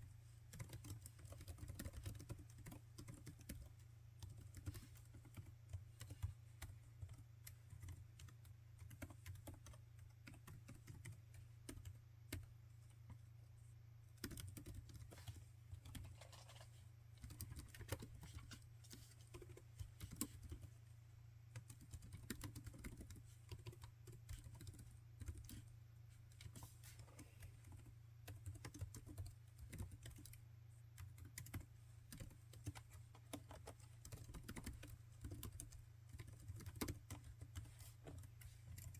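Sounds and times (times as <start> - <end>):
typing on laptop keyboard: 0.5 - 13.2, 14.0 - 20.8, 21.5 - 38.9.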